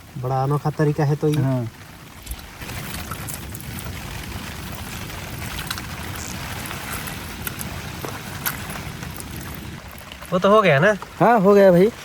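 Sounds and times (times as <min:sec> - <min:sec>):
heavy rain on a tent: 0:00.0 - 0:12.0.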